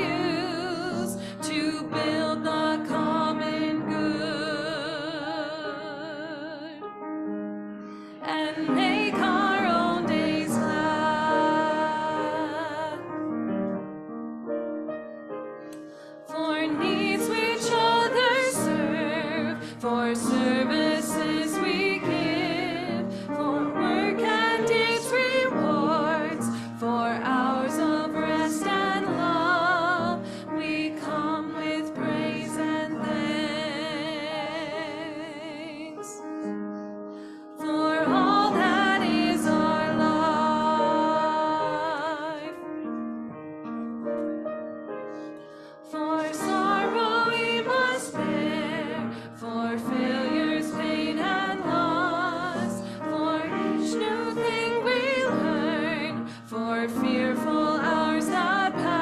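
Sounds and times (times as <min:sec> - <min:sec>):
voices singing a hymn: 0:00.0 - 0:06.8, 0:08.2 - 0:13.1, 0:16.2 - 0:36.2, 0:37.6 - 0:42.6, 0:45.8 - 0:59.0
keyboard accompaniment: 0:00.0 - 0:59.0.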